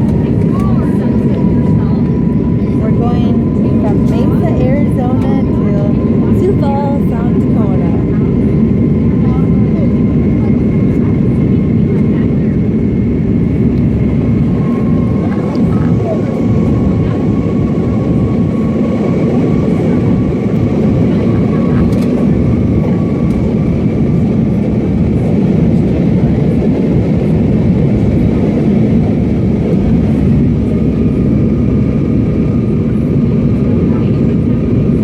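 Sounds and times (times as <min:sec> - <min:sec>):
airliner cabin engine noise: 0:00.0 - 0:35.0.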